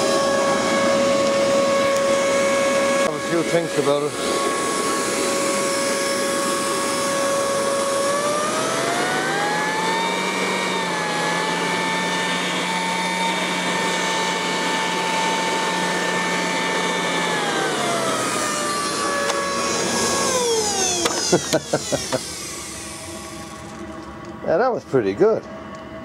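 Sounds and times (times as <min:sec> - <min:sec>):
heater fan whining: 0:00.0 - 0:26.0.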